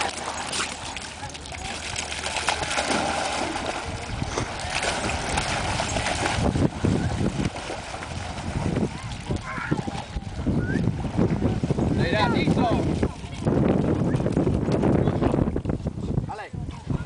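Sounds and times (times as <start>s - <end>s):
dogs splashing in water: 0.0s - 14.8s
wind rumbling on microphone: 0.0s - 17.0s.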